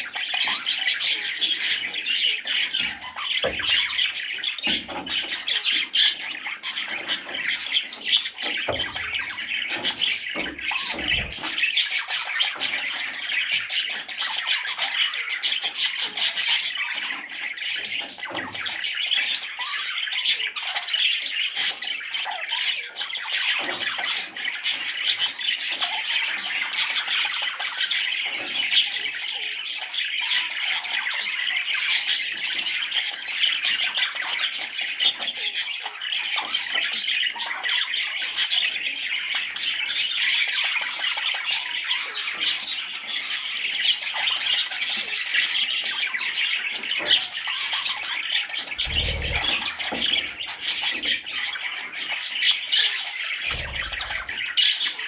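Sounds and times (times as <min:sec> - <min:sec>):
baby budgerigars chirping: 0:00.0 - 0:55.0.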